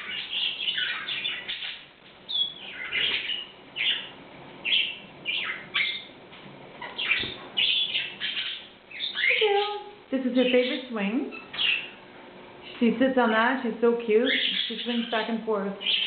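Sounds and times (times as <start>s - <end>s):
canary chirping: 0.0s - 6.2s, 6.8s - 12.0s, 14.0s - 16.0s.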